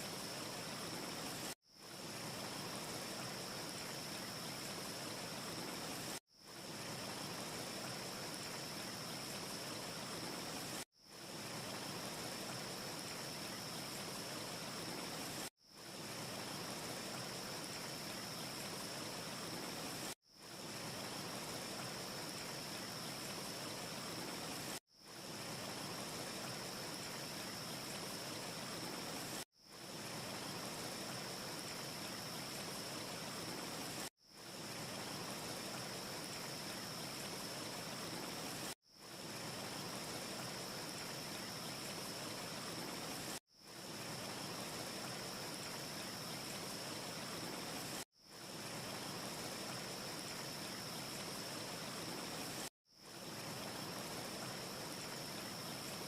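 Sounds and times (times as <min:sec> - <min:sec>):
faint high hiss: 0:00.0 - 0:56.0.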